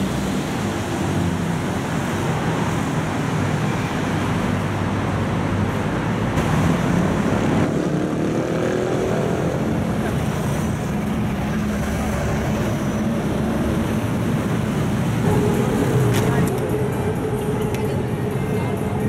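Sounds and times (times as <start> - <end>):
traffic rumble: 0.0 - 19.0
vehicle engines running: 0.0 - 19.0.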